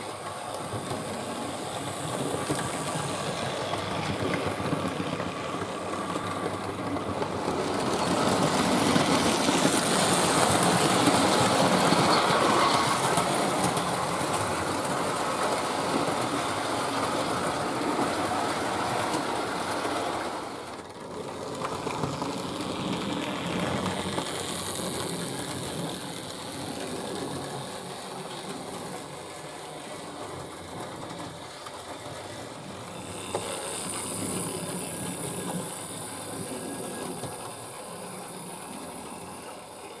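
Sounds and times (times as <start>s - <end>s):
model train motor whirring: 0.0s - 40.0s
wheels rattling over rails: 0.0s - 40.0s.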